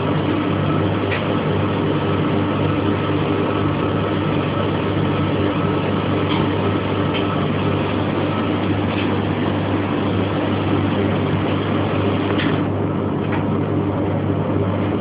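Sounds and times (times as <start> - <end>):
laundry machine running: 0.0 - 15.0.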